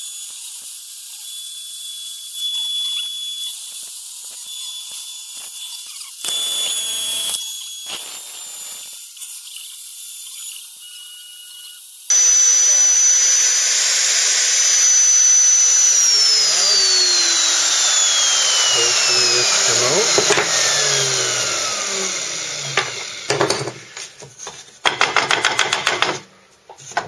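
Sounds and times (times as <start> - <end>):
router spindle cutting wood: 0.0 - 26.1.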